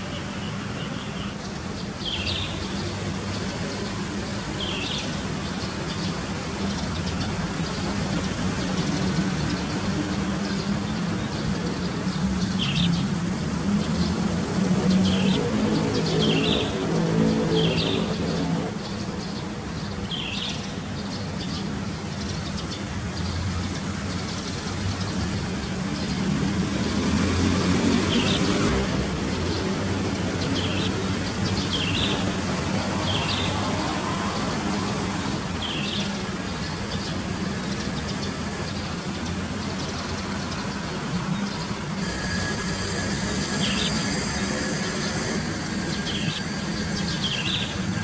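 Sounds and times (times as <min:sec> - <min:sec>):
birds chirping: 0:00.1 - 0:48.0.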